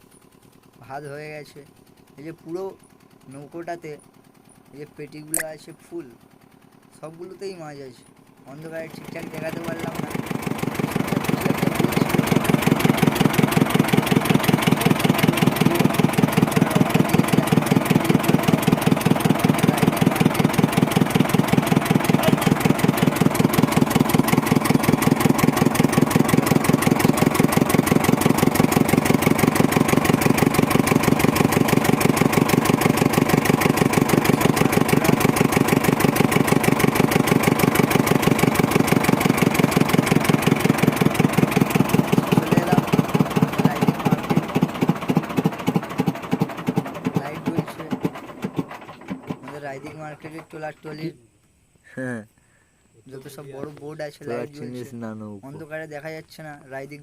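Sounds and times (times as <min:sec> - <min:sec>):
boat engine running: 0:00.0 - 0:51.2.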